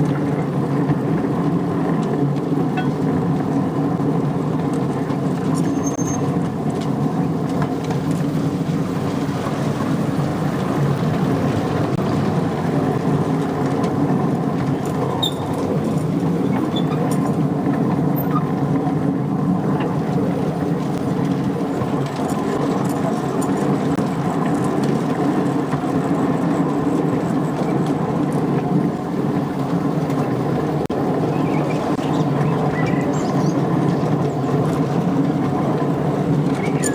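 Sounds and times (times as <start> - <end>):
miniature train running on track: 0.0 - 36.9.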